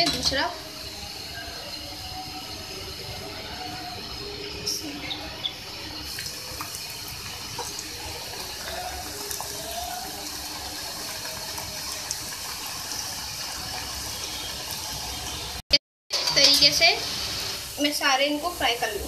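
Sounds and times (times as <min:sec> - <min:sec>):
bread sizzling in hot oil: 0:00.0 - 0:19.0.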